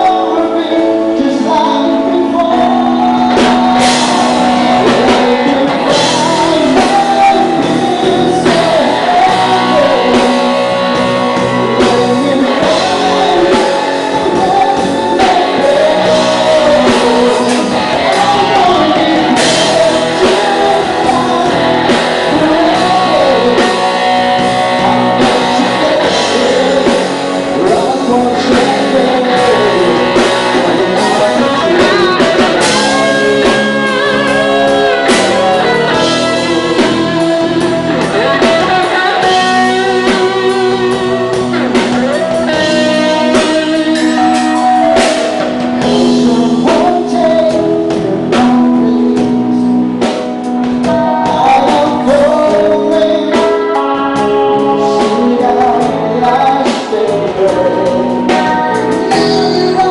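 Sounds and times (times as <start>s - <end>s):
person singing: 0.0s - 59.9s
rock band playing live: 0.0s - 59.9s.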